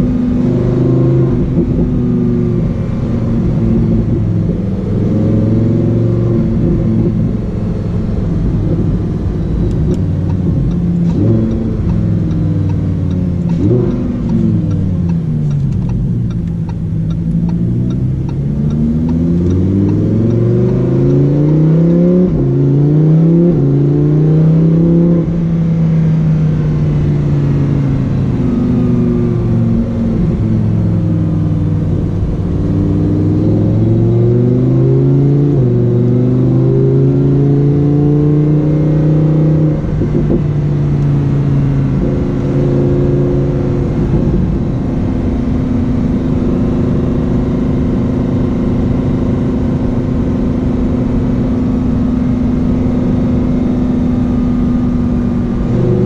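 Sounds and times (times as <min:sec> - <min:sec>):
sports car engine shifting gears: 0:00.0 - 0:56.0.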